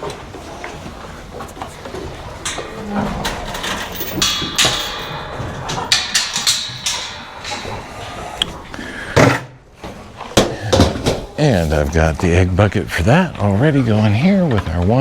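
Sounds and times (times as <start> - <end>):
irregular knocks and clatters: 0.0 - 12.8.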